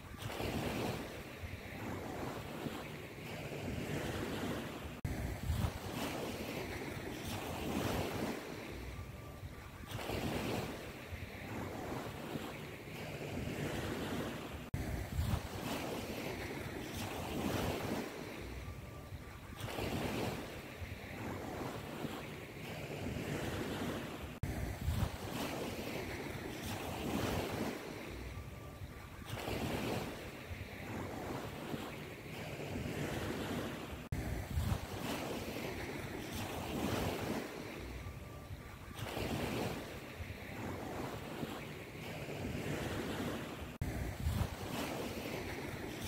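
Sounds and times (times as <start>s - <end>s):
surf-like rushing noise: 0.0s - 46.0s.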